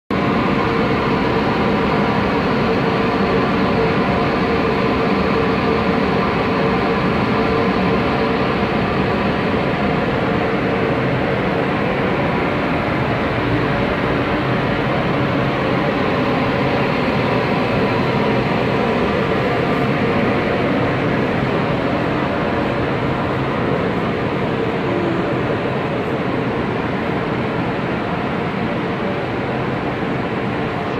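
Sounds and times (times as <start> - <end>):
electric train running past: 0.2 - 30.9.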